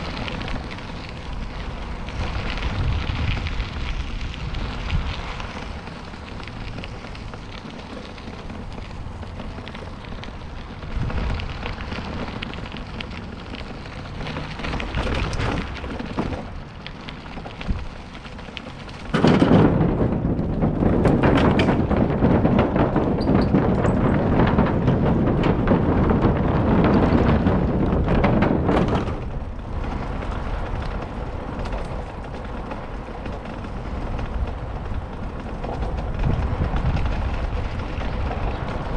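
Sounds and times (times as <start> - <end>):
bicycle tyre noise: 0.0 - 38.9
bike knocks and rattles: 0.0 - 38.9
wind rumbling on microphone: 0.0 - 38.9.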